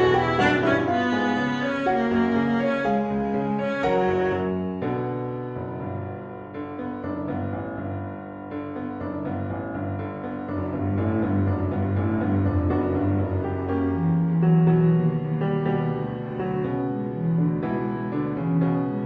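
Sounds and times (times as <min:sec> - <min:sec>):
piano: 0:00.0 - 0:19.0.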